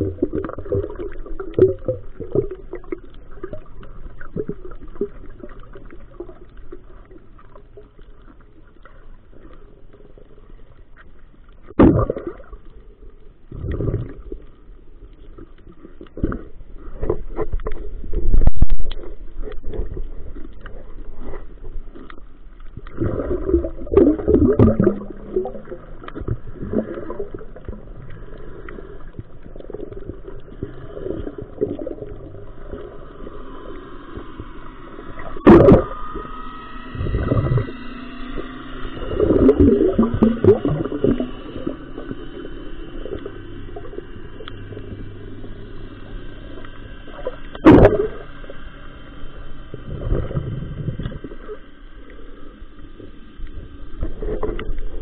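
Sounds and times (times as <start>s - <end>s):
gurgling water and bubbles: 0.0s - 55.0s.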